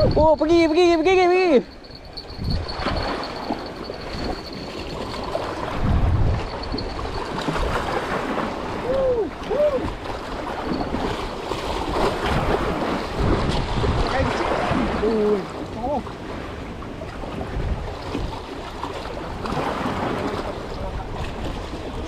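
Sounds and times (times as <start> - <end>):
sea water sloshing: 0.0 - 22.0
wind buffeting the microphone: 0.0 - 22.0.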